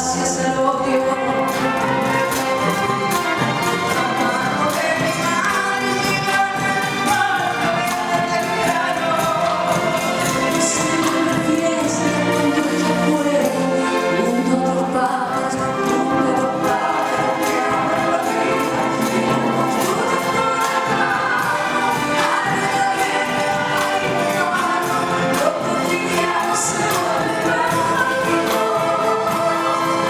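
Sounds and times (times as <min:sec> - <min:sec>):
mixed choir singing: 0:00.0 - 0:30.0
orchestra playing: 0:00.0 - 0:30.0.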